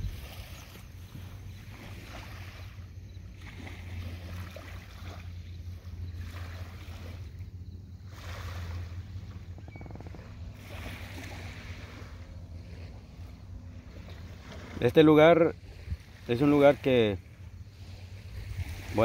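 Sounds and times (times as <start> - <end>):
waves lapping on pebbly shore: 0.0 - 7.4, 8.0 - 9.4, 10.1 - 19.0
wind rumble on microphone: 0.0 - 19.0.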